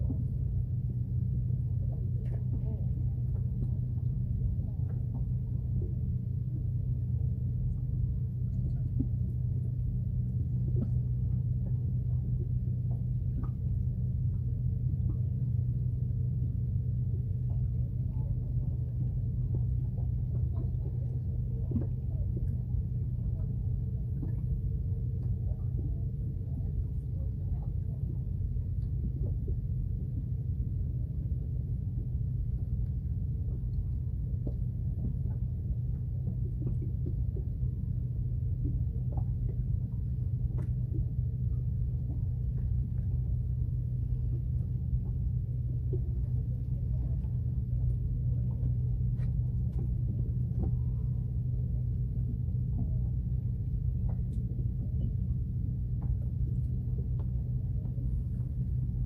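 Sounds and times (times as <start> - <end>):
boat engine idling: 0.0 - 59.0.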